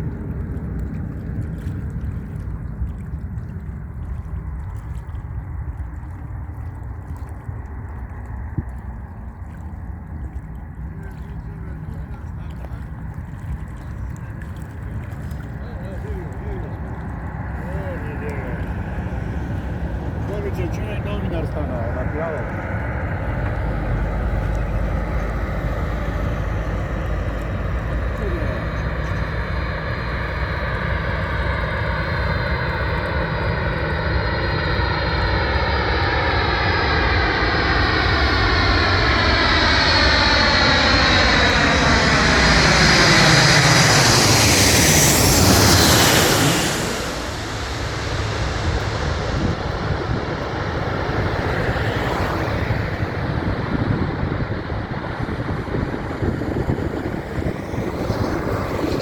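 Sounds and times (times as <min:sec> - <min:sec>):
military airplane passing: 0:00.0 - 0:59.0.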